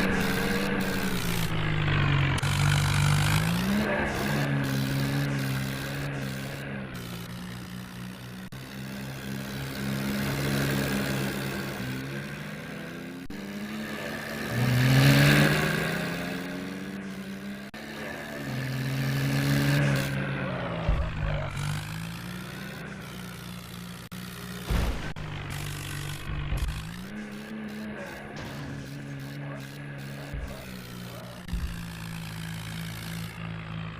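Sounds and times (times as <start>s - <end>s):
tractor engine revving: 0.0s - 33.9s.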